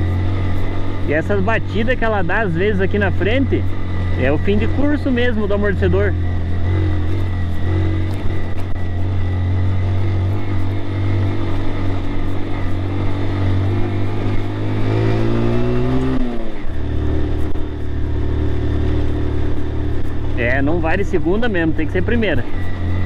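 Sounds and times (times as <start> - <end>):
motorcycle engine pulling: 0.0 - 23.0.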